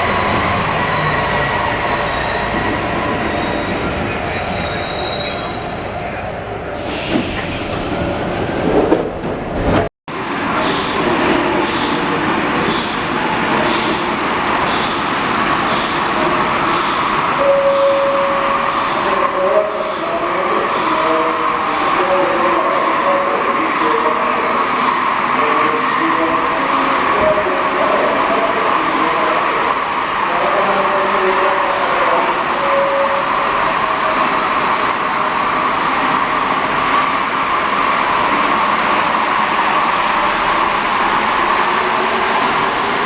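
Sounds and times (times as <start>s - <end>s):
metro train running hum: 0.0s - 43.0s.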